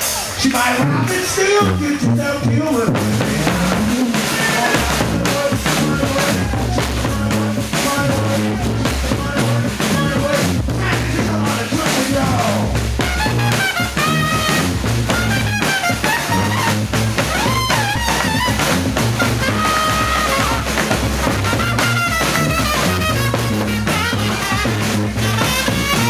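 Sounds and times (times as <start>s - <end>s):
brass band playing: 0.0s - 26.0s
drum beat: 0.0s - 26.0s
horn lines: 0.0s - 26.0s
repeating low bass line: 0.6s - 26.0s.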